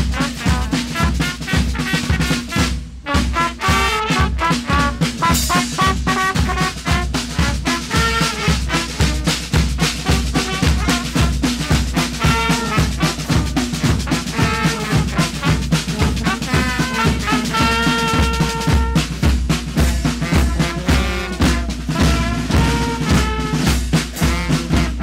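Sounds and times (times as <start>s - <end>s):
brass band playing: 0.0s - 25.0s
drums beaten with mallets: 0.0s - 25.0s.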